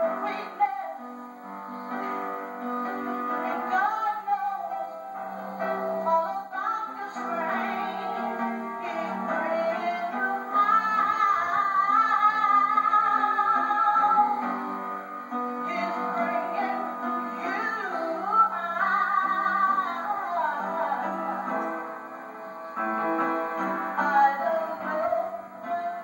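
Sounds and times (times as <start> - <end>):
woman singing gospel: 0.0 - 21.9, 23.6 - 26.0
instrumental backing with guitar: 0.0 - 26.0.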